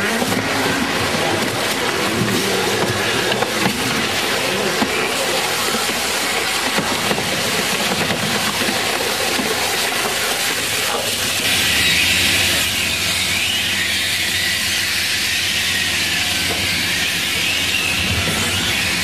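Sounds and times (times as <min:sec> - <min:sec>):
tyre shredder running: 0:00.0 - 0:19.0.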